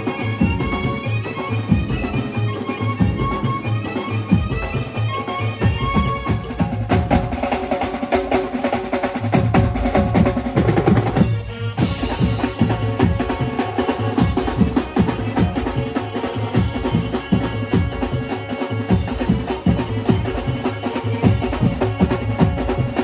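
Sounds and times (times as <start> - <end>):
live band music: 0.0 - 23.0.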